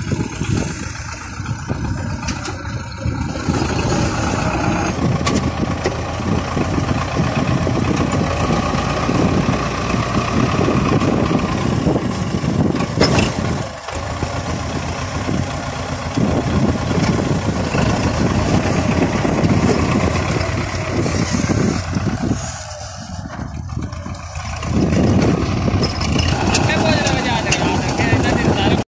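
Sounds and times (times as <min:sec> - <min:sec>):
tractor diesel engine running: 0:00.0 - 0:28.8.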